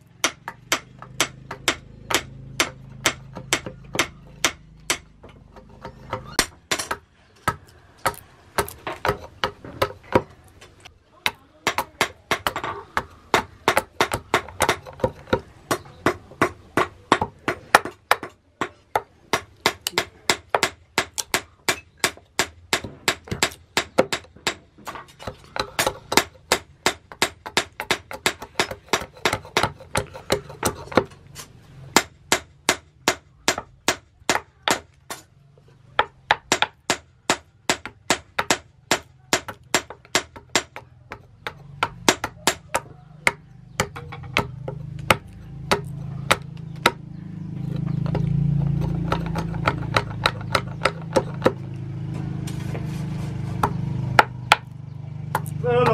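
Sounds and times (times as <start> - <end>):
knife chopping wood: 0.2 - 10.4, 11.2 - 35.3, 36.0 - 55.9.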